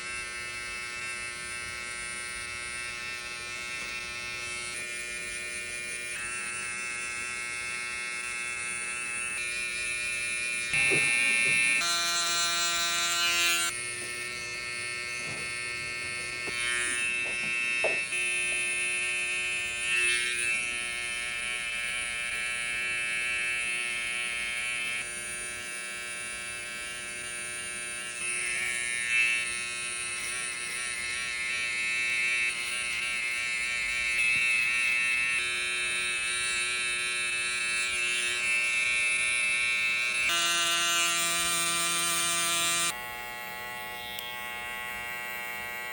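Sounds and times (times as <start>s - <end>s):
electric hair clippers buzzing: 0.0s - 45.9s.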